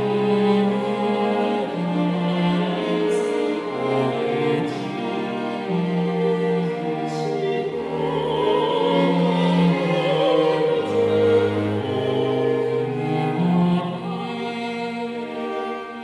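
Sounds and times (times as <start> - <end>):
string quartet playing chords: 0.0 - 16.0
soprano singing with vibrato: 1.8 - 16.0.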